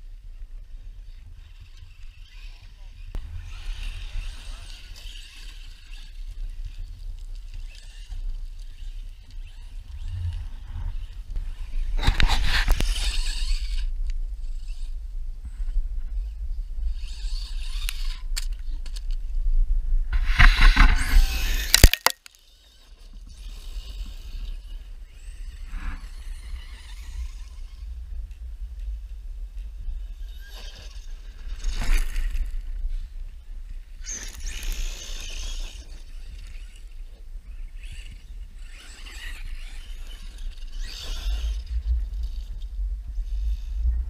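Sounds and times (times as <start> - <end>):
rc truck driving over gravel: 0.0 - 19.3, 20.2 - 44.0
wind rumble on microphone: 0.0 - 21.8, 23.3 - 44.0.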